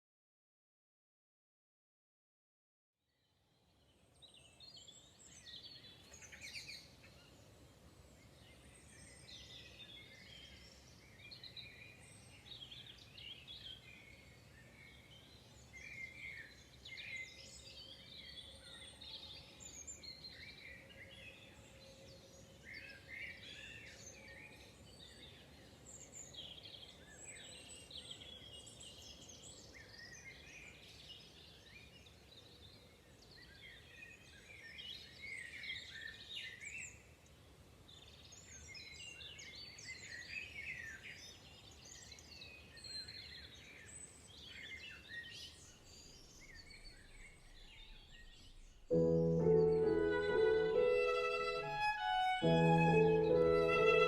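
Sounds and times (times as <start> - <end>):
songbirds singing and chirping: 3.2 - 54.0.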